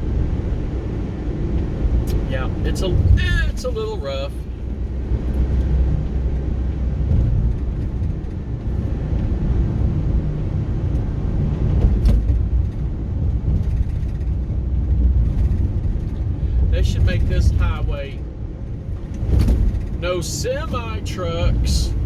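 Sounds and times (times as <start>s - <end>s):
car tyres and engine rumble: 0.0s - 22.0s.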